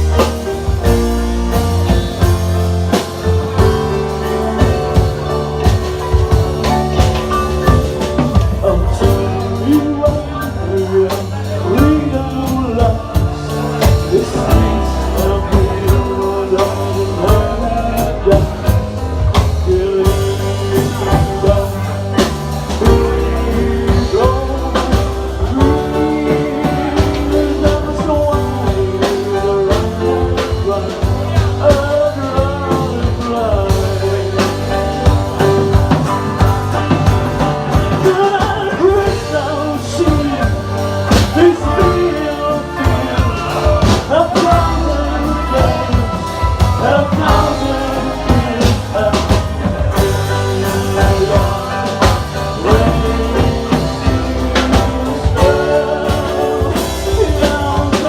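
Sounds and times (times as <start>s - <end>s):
bass guitar: 0.0s - 58.0s
drum kit: 0.0s - 58.0s
person singing: 0.0s - 58.0s.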